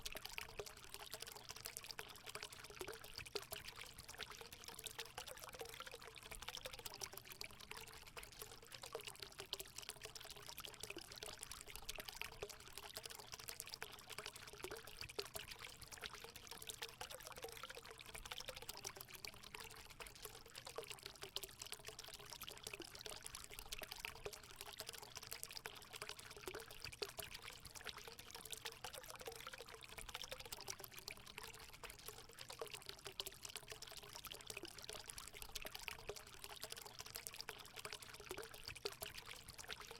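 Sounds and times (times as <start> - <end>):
water pouring into pool: 0.0 - 39.9.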